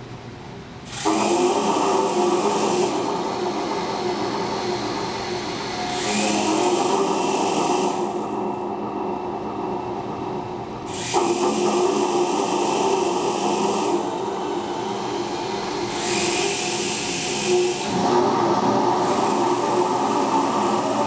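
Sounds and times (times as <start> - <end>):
buzzing whirring drone: 0.0 - 21.0.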